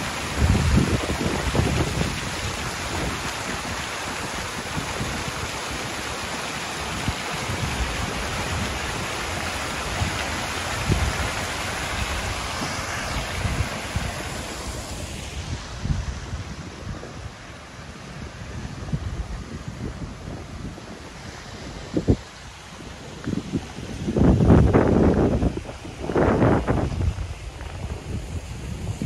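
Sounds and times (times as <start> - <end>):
fountain water splashing: 0.0 - 29.0
wind buffeting microphone: 0.0 - 29.0.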